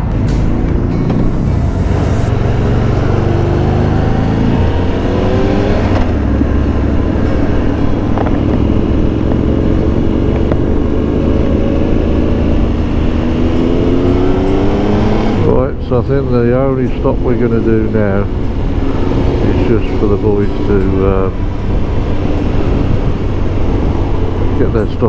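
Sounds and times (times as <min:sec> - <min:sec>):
motorcycle engine accelerating: 0:00.0 - 0:25.0
wind noise on microphone: 0:01.2 - 0:15.5, 0:18.0 - 0:25.0.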